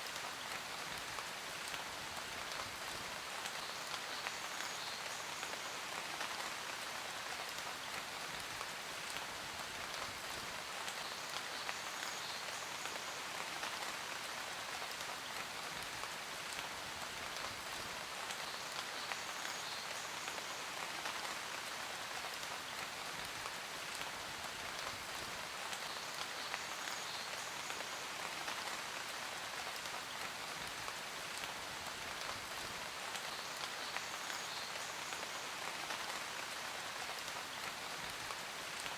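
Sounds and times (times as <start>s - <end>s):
steady rain with ticking drops: 0.0s - 38.9s.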